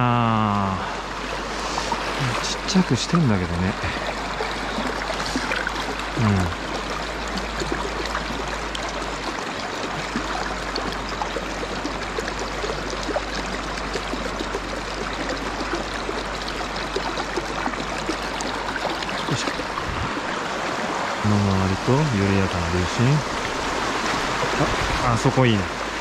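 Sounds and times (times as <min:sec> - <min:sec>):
stream flowing over stones: 0:00.0 - 0:26.0.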